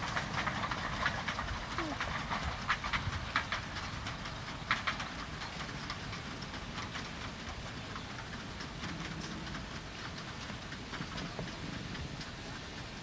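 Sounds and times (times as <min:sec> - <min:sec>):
distant train clattering: 0:00.0 - 0:13.0
train low rumble: 0:00.0 - 0:13.0.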